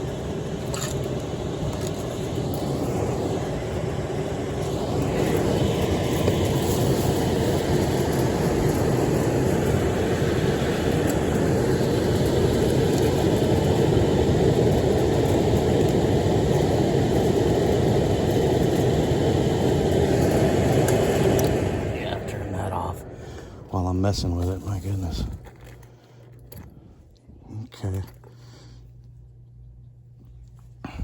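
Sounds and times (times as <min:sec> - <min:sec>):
furnace fan rushing air: 0:00.0 - 0:31.0.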